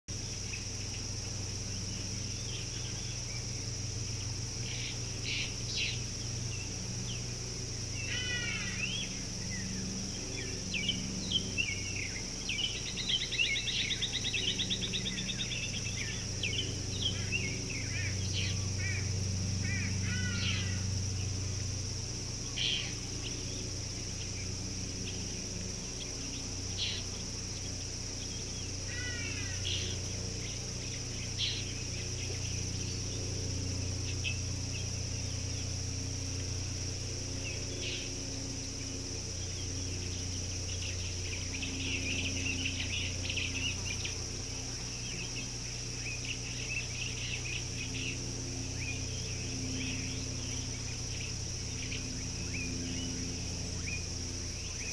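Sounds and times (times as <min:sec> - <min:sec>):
birds chirping: 0:00.1 - 0:54.9
high insect buzz: 0:00.1 - 0:54.9
low steady hum: 0:00.1 - 0:54.9.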